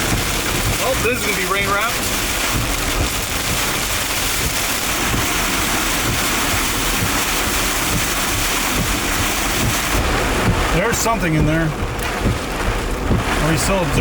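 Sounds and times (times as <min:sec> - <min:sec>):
heavy rain: 0:00.0 - 0:14.0
wind: 0:00.0 - 0:14.0.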